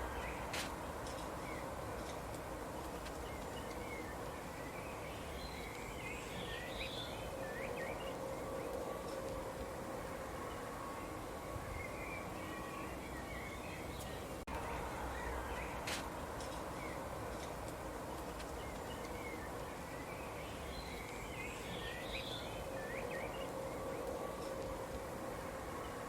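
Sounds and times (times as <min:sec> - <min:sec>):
birds chirping: 0:00.0 - 0:09.4, 0:10.4 - 0:26.0
steady background hiss: 0:00.0 - 0:26.0.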